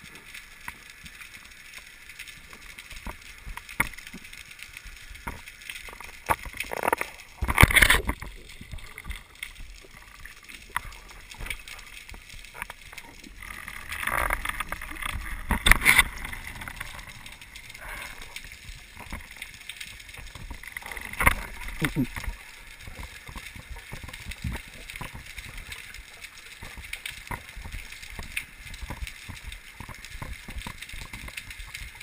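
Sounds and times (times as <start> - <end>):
rushing gurgles of water: 0.0 - 32.0
small clicks and knocks: 0.2 - 32.0
low underwater rush: 4.6 - 31.9.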